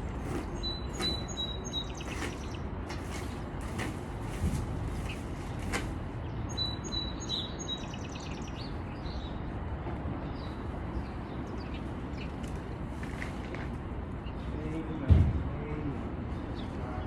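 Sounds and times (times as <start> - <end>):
birds chirping: 0.0 - 12.9, 13.9 - 17.0.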